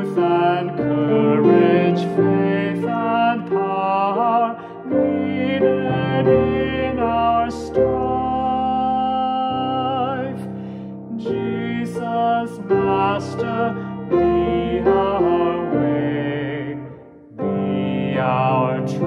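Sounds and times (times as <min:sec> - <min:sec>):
man singing a hymn: 0:00.0 - 0:19.0
piano chords: 0:00.0 - 0:19.0.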